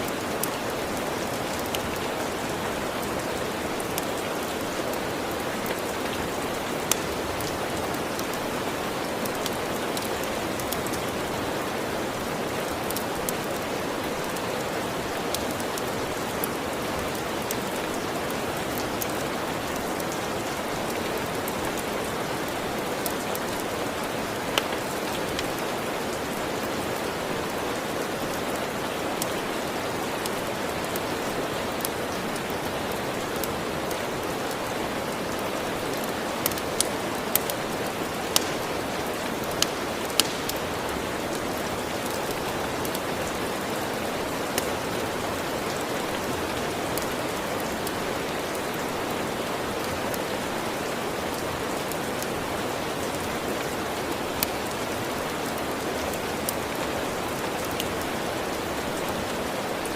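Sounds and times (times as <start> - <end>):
wood fire crackling: 0.0 - 50.5
steady rain falling: 0.0 - 59.9.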